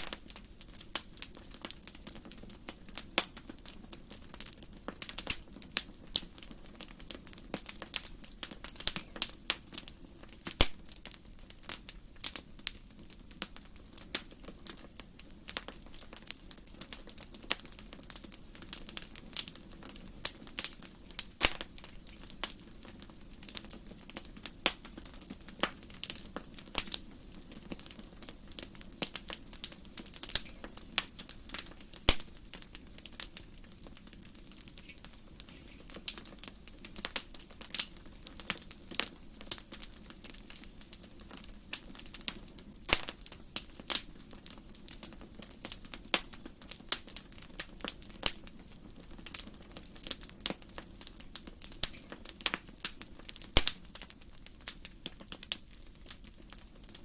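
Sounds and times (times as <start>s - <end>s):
fire low hiss: 0.0s - 57.0s
wood fire crackling and popping: 0.0s - 57.0s.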